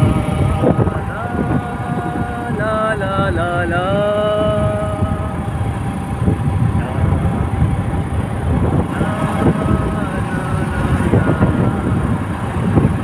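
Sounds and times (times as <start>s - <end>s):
road and engine noise: 0.0s - 13.0s
wind buffeting microphone: 0.0s - 13.0s.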